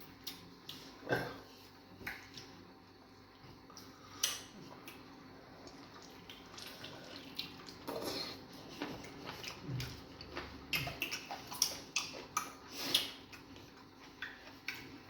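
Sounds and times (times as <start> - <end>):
wet eating sounds by hand: 0.1 - 15.0.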